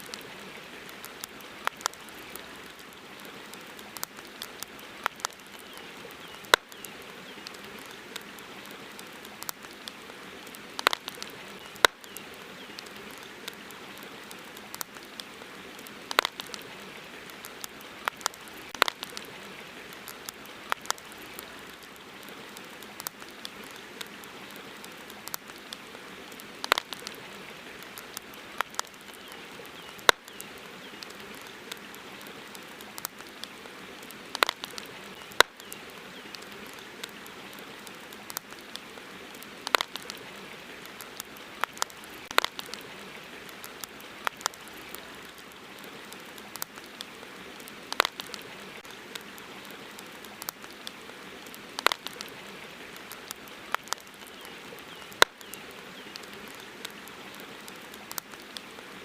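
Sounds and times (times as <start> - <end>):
campfire crackling and popping: 0.0 - 59.0
steady hiss: 0.0 - 59.0.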